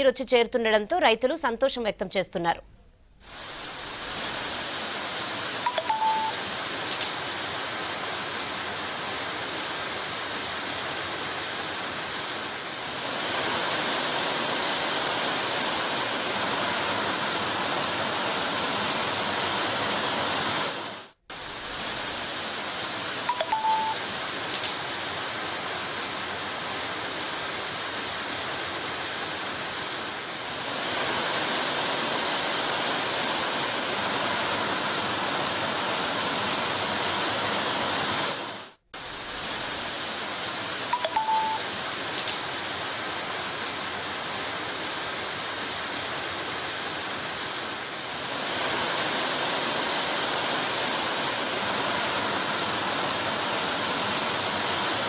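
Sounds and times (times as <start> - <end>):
heavy rain on trees: 3.2 - 55.0.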